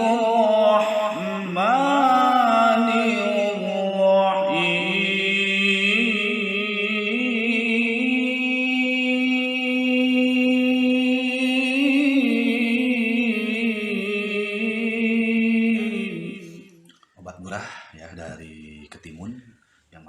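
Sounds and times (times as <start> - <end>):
chant-like singing voice: 0.0 - 19.4.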